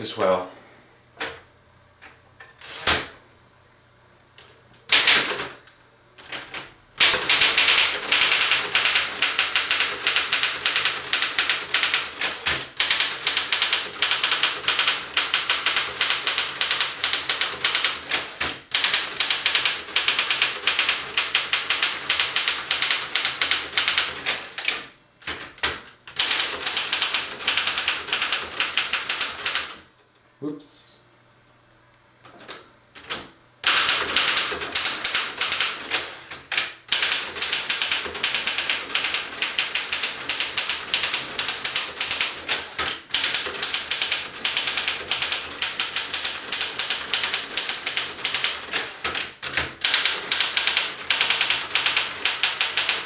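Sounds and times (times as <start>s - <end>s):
manual typewriter typing: 4.9s - 5.6s, 6.2s - 29.8s, 32.4s - 53.0s.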